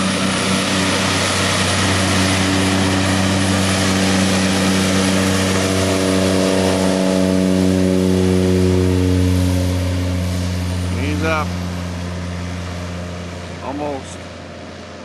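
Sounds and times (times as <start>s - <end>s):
turboprop propeller drone: 0.0s - 15.0s.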